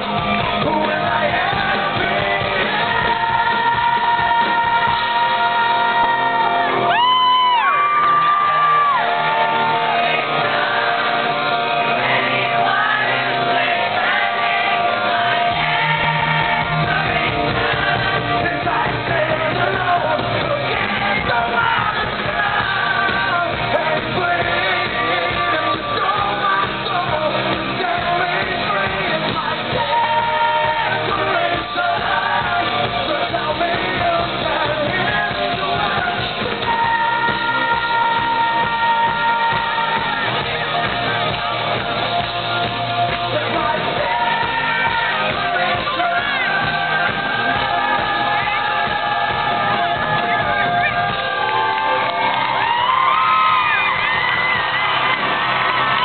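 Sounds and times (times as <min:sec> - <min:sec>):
steady drum beat: 0:00.0 - 0:07.1, 0:08.0 - 0:56.0
electric guitar: 0:00.0 - 0:56.0
man singing lead: 0:00.0 - 0:56.0.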